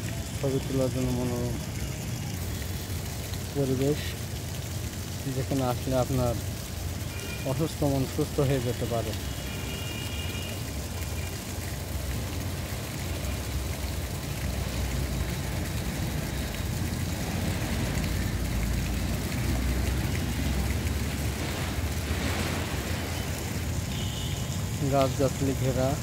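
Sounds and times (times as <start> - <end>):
fountain water spraying and splashing: 0.0 - 26.0.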